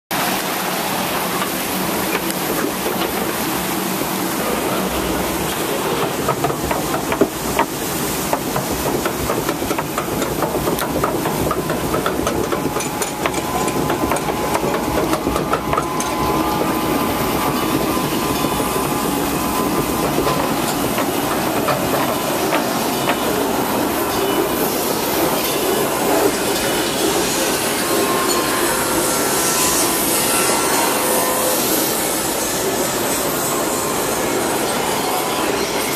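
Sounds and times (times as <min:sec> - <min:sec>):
hiss of running water: 0:00.1 - 0:35.9.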